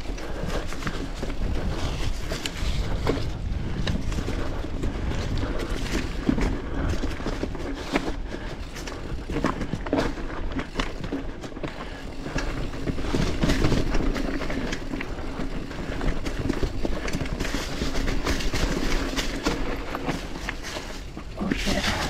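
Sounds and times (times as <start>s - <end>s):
bike rattling over bumps: 0.0s - 22.0s
bike tyres over roots and leaves: 0.0s - 22.0s.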